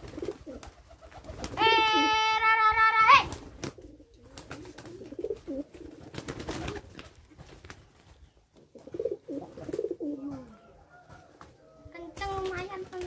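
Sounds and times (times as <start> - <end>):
pigeons cooing: 0.0 - 2.4, 3.5 - 7.0, 8.4 - 13.0.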